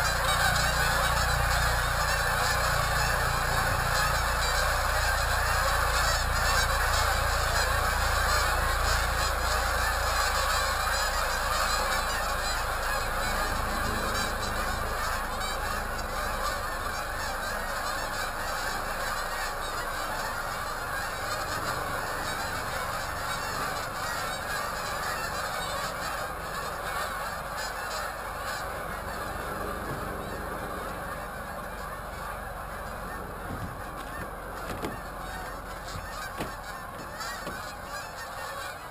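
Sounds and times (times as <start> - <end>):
geese honking: 0.0 - 38.9.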